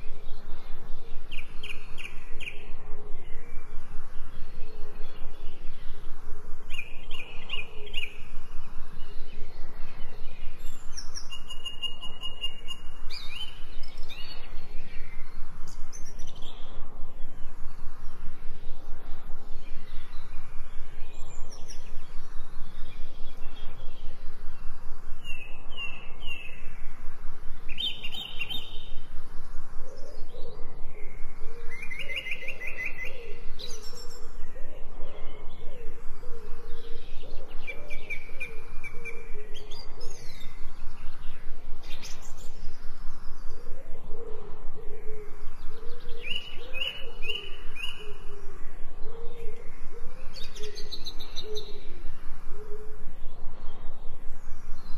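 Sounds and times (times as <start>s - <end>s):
low warbling bird call: 0.0s - 54.9s
songbirds chirping and trilling: 0.0s - 54.9s.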